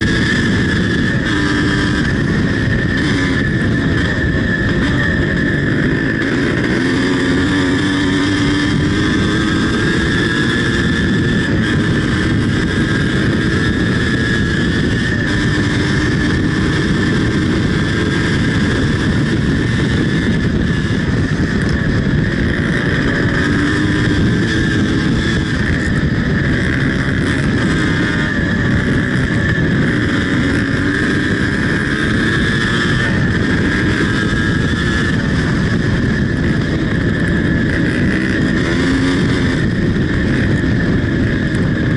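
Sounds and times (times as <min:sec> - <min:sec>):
two-stroke engine at high revs: 0:00.0 - 0:41.9
wind and road noise: 0:00.0 - 0:41.9.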